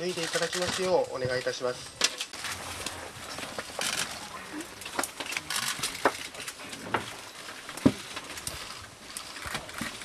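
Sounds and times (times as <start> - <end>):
rustling of people moving: 0.0 - 10.0.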